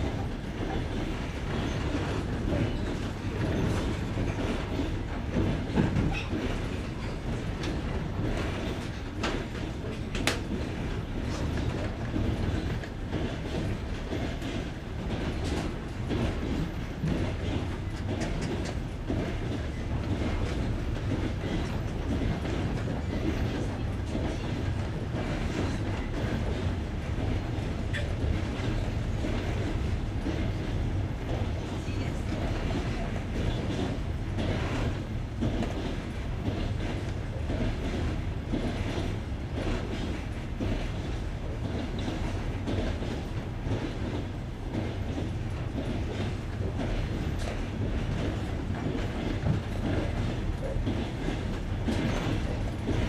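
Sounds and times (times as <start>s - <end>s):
train carriage rumble: 0.0s - 53.0s
train wheels clickety-clack on rail joints: 0.0s - 53.0s.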